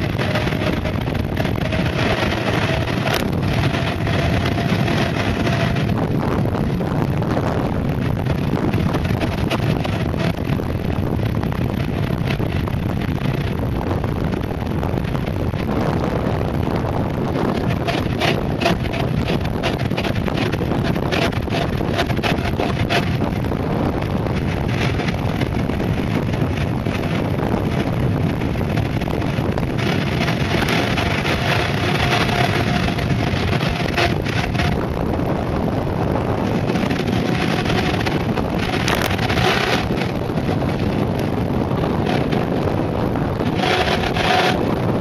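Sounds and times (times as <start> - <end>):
tyres rolling on asphalt: 0.0 - 45.0
wind buffeting microphone: 0.0 - 45.0.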